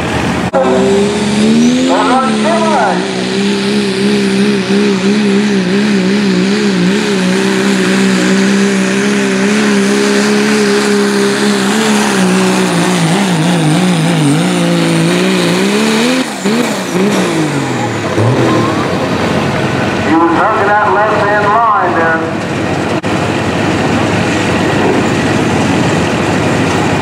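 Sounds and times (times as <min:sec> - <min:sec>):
diesel engine at full throttle: 0:00.0 - 0:27.0.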